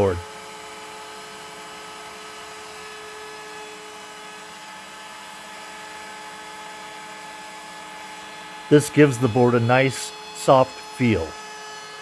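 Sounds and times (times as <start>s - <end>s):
wood router motor whine: 0.0s - 12.0s.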